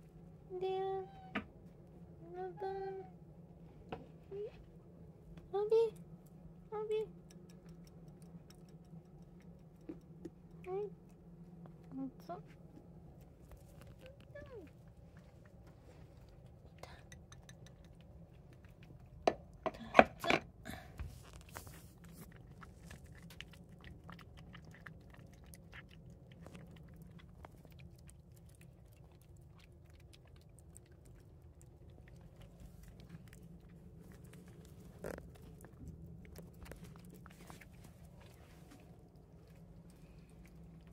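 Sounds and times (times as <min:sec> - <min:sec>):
cat chewing and crunching food: 0:03.4 - 0:40.9.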